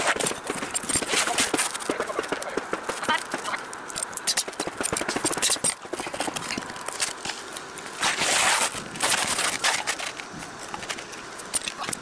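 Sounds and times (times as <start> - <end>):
gritty shingles scraping: 0.0 - 3.6, 4.2 - 12.0
shingles ticking and crackling: 0.0 - 12.0.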